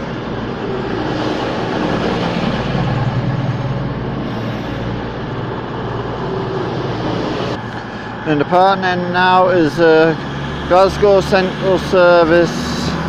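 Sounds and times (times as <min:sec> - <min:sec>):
diesel train engines droning: 0:00.0 - 0:13.0.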